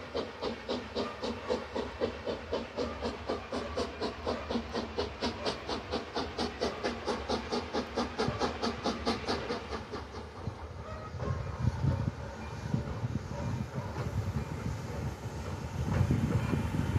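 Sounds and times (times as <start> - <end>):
low rumble of train: 0.0 - 16.9
steam locomotive chuffing: 0.0 - 16.9.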